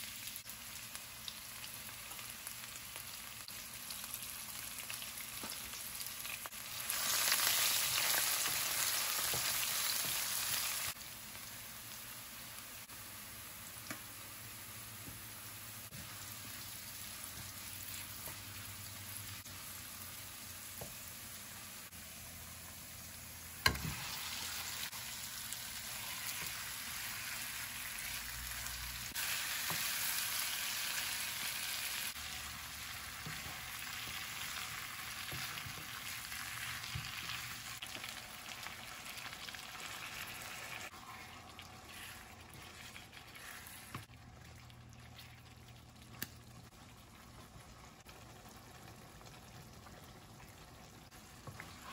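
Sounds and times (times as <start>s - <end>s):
chicken and onions sizzling in oil: 0.0s - 44.1s.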